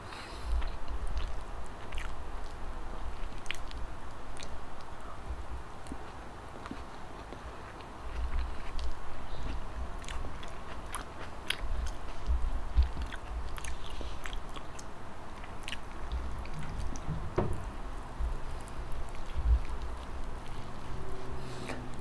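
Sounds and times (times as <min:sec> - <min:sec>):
chewing with wet mouth clicks: 0:00.6 - 0:05.0, 0:05.8 - 0:17.1, 0:18.3 - 0:22.0.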